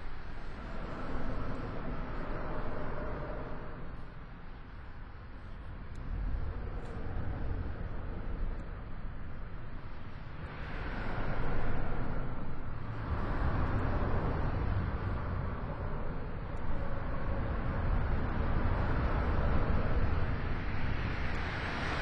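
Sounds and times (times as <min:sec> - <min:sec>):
engine rumble: 0:00.0 - 0:22.0
rushing noise: 0:00.0 - 0:22.0.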